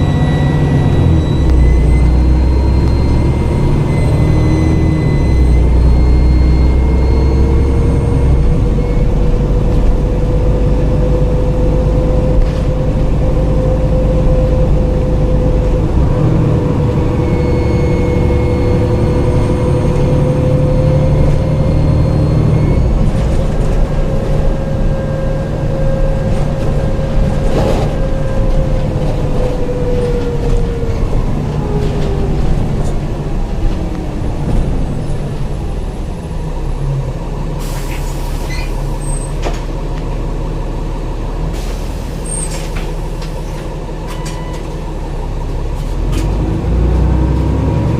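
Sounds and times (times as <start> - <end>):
bus diesel engine with whine: 0.0 - 47.9.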